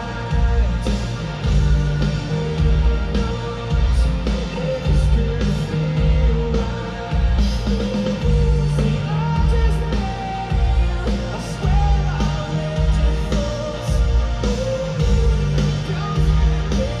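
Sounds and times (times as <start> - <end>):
heavy bass pulsing: 0.0 - 17.0
live rock band: 0.0 - 17.0
person singing: 0.0 - 17.0.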